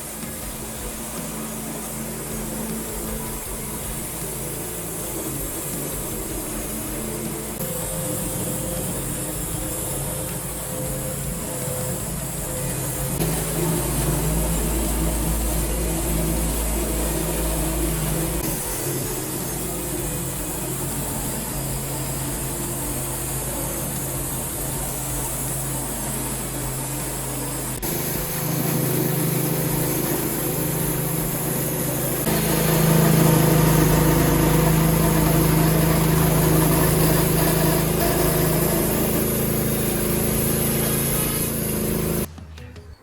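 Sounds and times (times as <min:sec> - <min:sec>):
sawmill running: 0:00.0 - 0:42.3.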